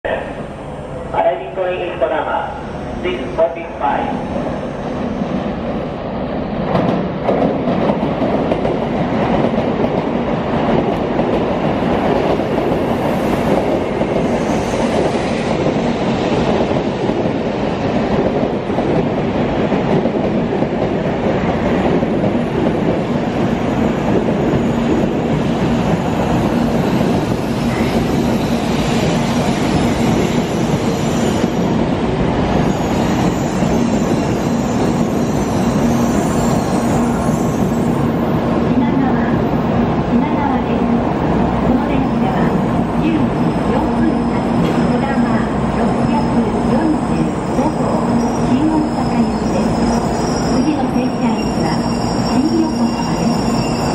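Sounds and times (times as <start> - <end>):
train wheels rumbling: 0.1 - 53.9.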